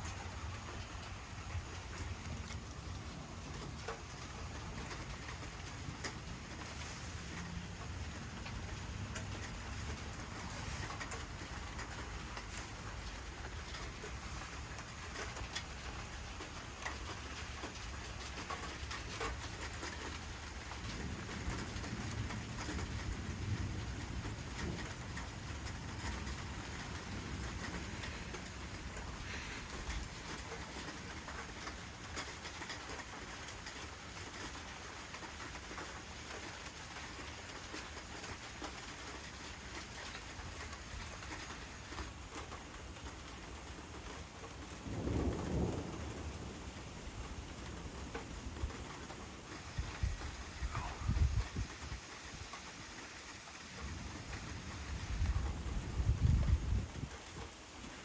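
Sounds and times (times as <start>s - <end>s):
thunder rumble: 0.0s - 36.4s, 40.0s - 52.7s, 53.7s - 58.0s
heavy rain pattering: 0.0s - 58.0s.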